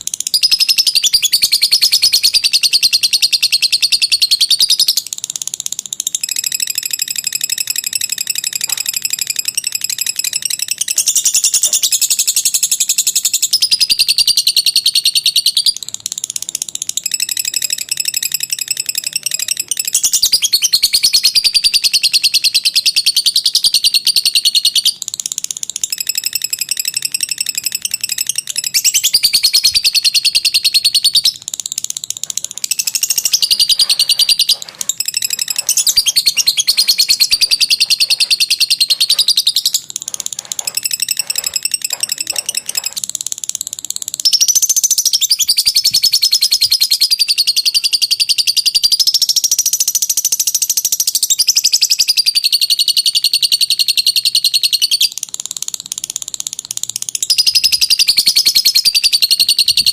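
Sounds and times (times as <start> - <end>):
lovebird buzzy trill: 0.0 - 59.9.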